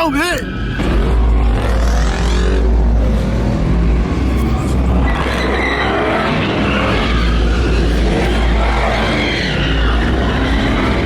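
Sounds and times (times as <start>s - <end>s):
car engine revving: 0.5s - 11.0s.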